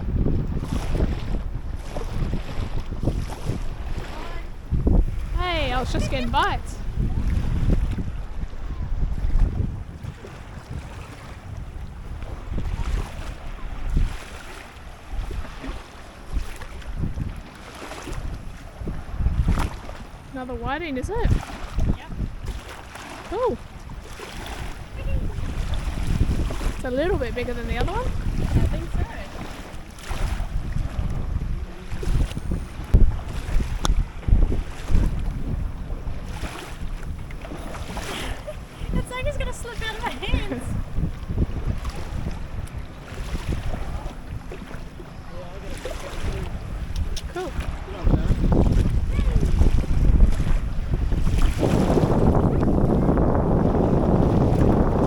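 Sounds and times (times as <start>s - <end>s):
water washing around boat: 0.0s - 55.0s
wind buffeting microphone: 0.0s - 55.0s.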